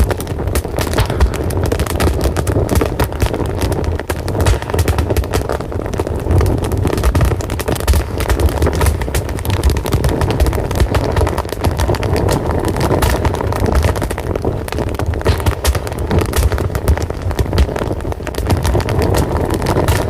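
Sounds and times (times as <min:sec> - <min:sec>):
fire crackling and rumbling: 0:00.0 - 0:20.0.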